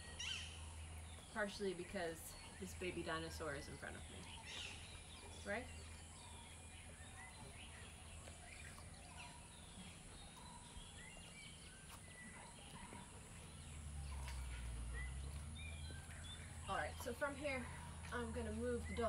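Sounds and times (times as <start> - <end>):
faint birdsong: 0.0 - 19.0
low hum: 0.0 - 19.0.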